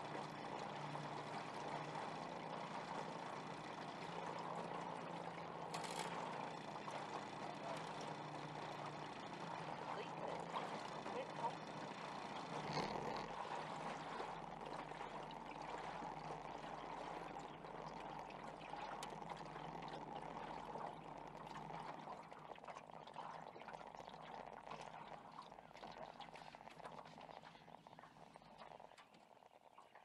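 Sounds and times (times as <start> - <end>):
water splashing against boat: 0.0 - 29.2.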